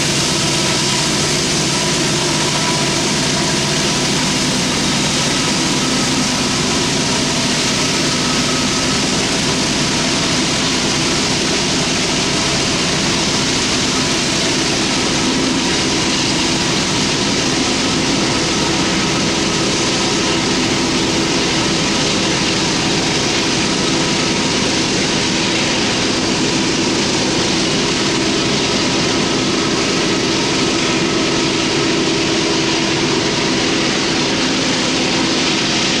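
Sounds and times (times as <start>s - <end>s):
diesel locomotives working hard: 0.0s - 36.0s.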